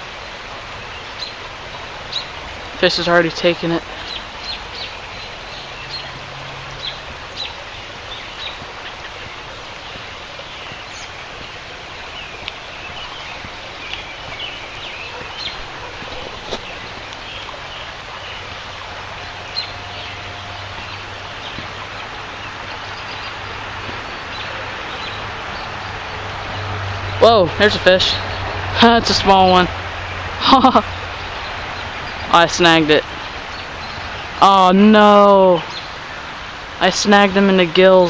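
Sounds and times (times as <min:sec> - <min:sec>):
birds chirping: 0:00.0 - 0:38.0
creek hiss: 0:00.0 - 0:38.0.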